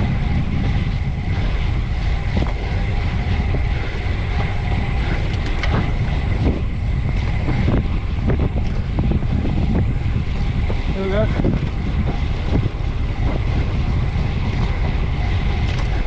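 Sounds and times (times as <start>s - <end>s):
bike ticks and rattles: 0.0s - 16.0s
road and tyre noise: 0.0s - 16.0s
wind buffeting microphone: 0.0s - 16.0s.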